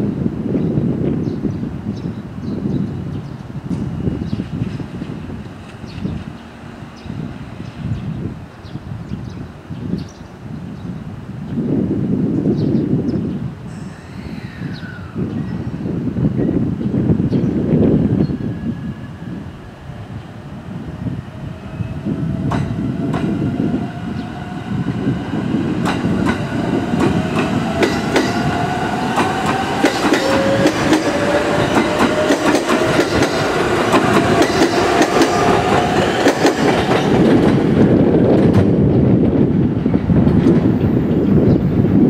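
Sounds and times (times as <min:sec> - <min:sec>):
train low rumble: 0:02.8 - 0:42.0.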